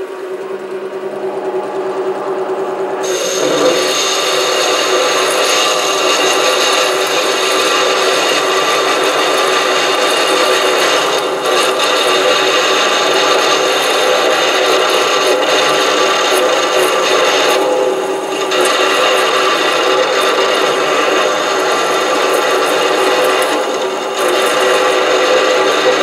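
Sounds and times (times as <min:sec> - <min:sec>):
lathe motor humming: 0:00.0 - 0:26.0
tool cutting metal: 0:03.0 - 0:17.8, 0:18.4 - 0:26.0.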